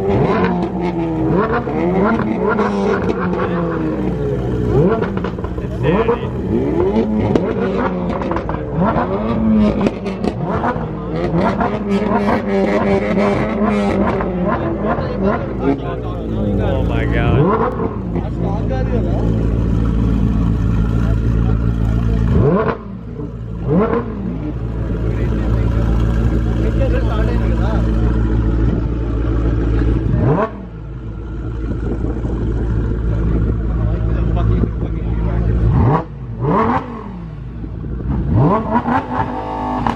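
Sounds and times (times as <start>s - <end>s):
car engines revving: 0.0s - 39.9s
steady engine drone: 0.0s - 39.9s.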